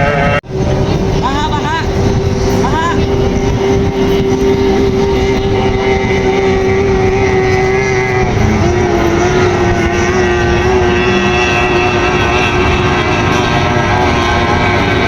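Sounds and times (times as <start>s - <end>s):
powerboat engine running: 0.0s - 15.0s.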